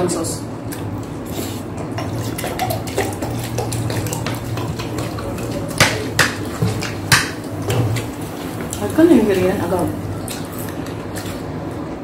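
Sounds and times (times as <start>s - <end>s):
steady low hum: 0.0s - 12.0s
wet chewing and smacking: 0.6s - 12.0s.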